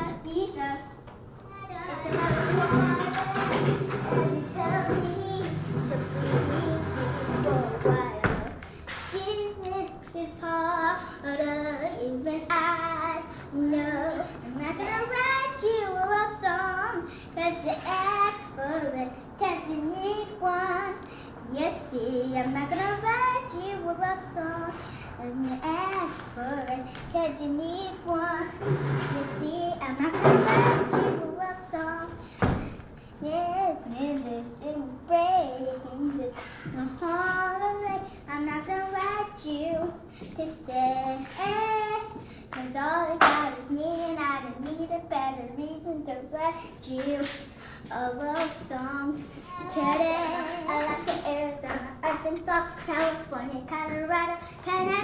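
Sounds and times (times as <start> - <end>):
girl singing: 0.0 - 55.0.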